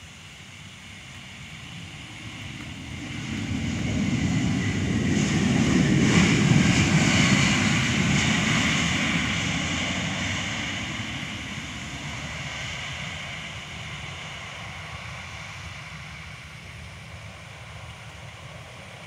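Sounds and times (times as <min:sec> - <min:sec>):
jet aircraft passing by: 0:00.0 - 0:19.0.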